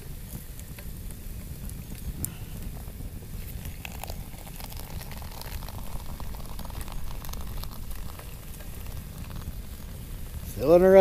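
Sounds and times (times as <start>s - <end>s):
wind rumble on microphone: 0.0s - 11.0s
water crackling and splashing: 1.5s - 11.0s.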